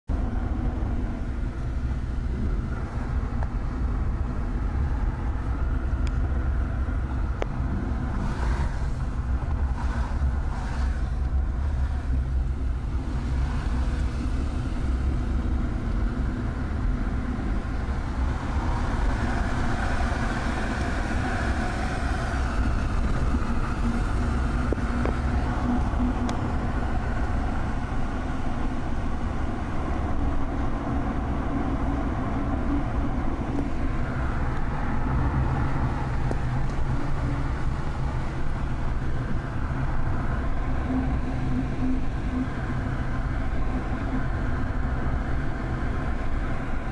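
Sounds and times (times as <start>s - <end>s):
rushing noise: 0.1s - 46.9s
truck engine rumbling: 0.1s - 46.9s.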